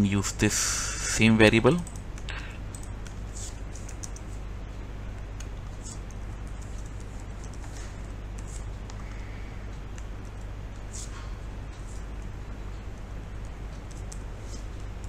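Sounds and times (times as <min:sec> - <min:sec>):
low background hum: 0:00.0 - 0:15.0
faint keyboard typing: 0:01.7 - 0:11.1, 0:11.7 - 0:15.0.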